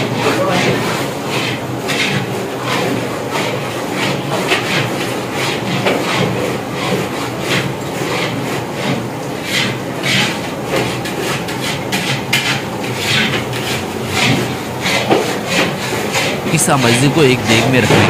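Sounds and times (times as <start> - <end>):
metal paddle scraping cooking pot: 0.0 - 18.0.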